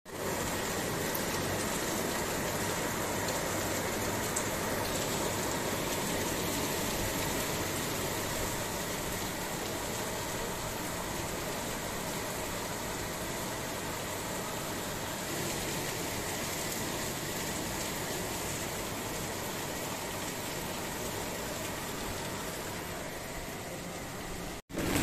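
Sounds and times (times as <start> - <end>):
rain falling: 0.1 - 25.0.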